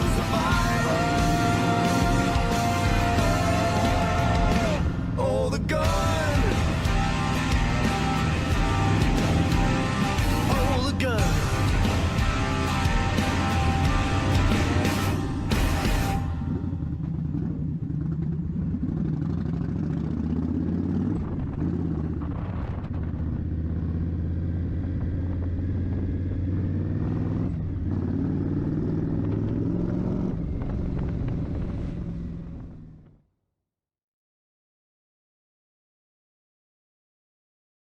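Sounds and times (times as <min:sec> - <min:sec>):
motorcycle exhaust note: 0:00.0 - 0:33.2.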